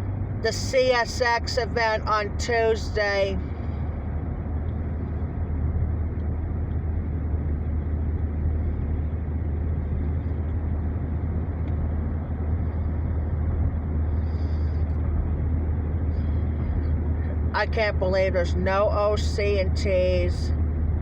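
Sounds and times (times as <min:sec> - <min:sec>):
road and engine rumble in cabin: 0:00.0 - 0:21.0.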